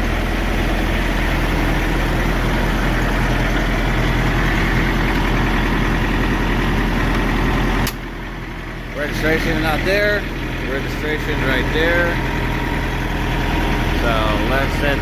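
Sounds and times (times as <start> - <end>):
refrigeration unit diesel engine running: 0.0 - 15.0.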